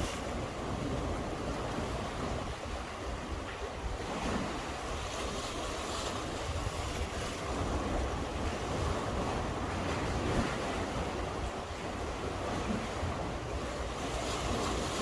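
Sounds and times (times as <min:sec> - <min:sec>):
sea waves washing: 0:00.0 - 0:15.0
wind rumbling on microphone: 0:00.0 - 0:15.0.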